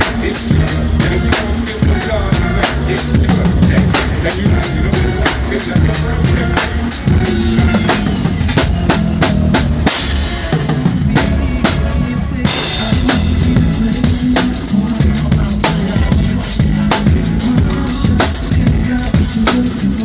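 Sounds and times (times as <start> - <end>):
bass line: 0.0 - 20.0
drum kit playing: 0.0 - 20.0.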